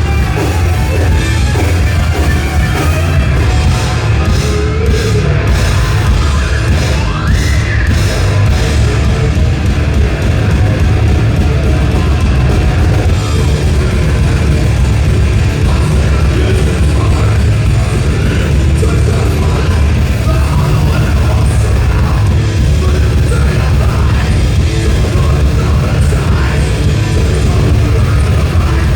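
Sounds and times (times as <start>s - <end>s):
bass: 0.0s - 28.9s
distorted guitars: 0.0s - 28.9s
drums: 0.0s - 28.9s.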